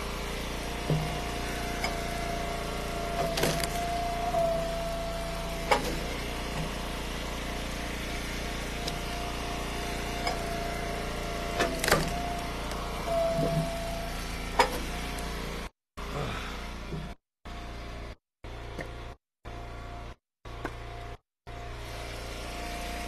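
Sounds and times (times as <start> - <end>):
wood splitter engine and pump whine: 0.0 - 23.0.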